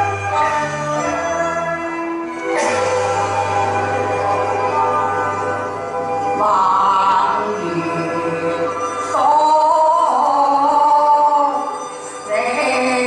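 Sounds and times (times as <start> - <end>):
music with long held notes: 0.0 - 13.0.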